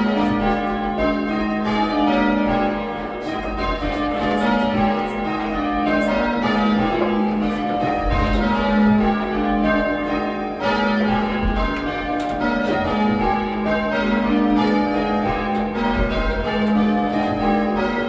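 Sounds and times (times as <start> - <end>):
church bells change ringing: 0.0 - 18.0.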